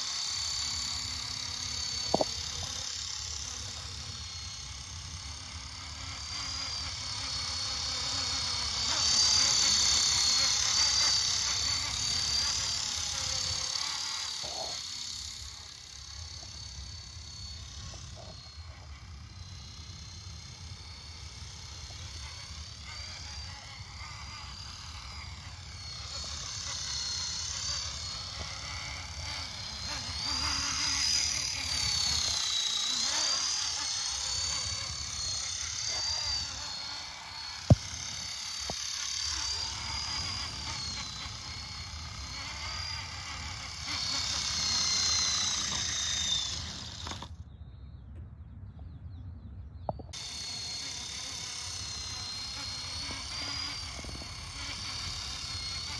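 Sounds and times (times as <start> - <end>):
rc helicopter rotor whine: 0.0 - 48.0, 49.9 - 55.9.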